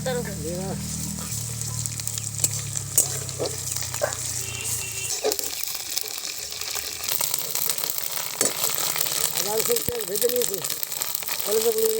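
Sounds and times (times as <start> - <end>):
onions sizzling in hot oil: 0.0 - 11.9.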